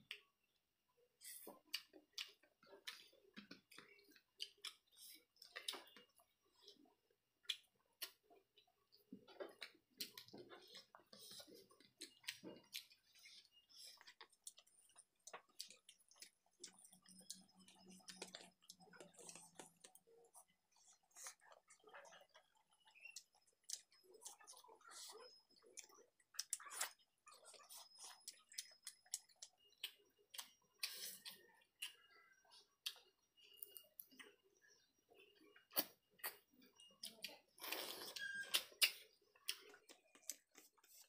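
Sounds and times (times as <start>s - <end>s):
faint low hum: 0.0s - 41.0s
chewing and mouth smacking: 1.2s - 8.3s, 9.2s - 34.4s, 35.6s - 41.0s.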